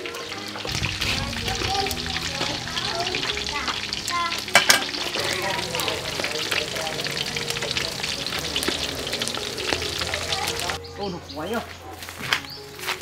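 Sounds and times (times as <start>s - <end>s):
fish sizzling on grill: 0.0s - 10.8s.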